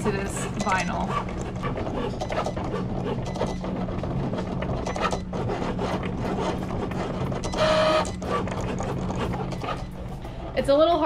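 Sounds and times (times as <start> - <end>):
low motor hum: 0.0 - 11.0
blade rasping while cutting: 0.1 - 10.6.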